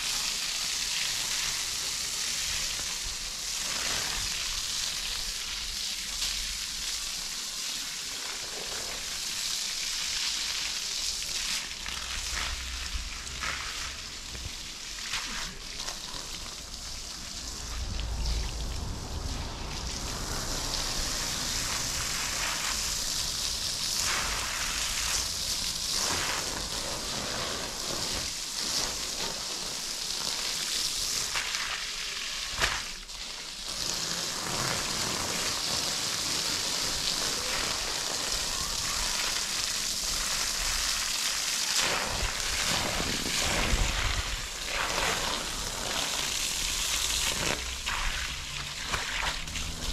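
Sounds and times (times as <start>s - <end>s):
hose spraying water: 0.0s - 49.9s.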